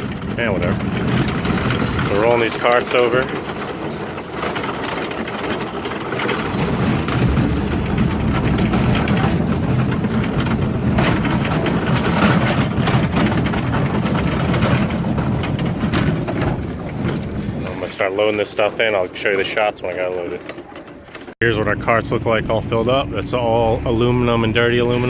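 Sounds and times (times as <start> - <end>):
cart wheels rumbling and rattling: 0.0 - 25.0.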